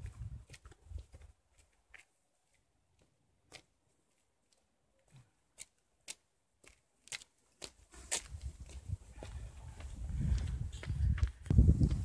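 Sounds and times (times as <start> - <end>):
footsteps on dirt road: 0.0 - 12.0.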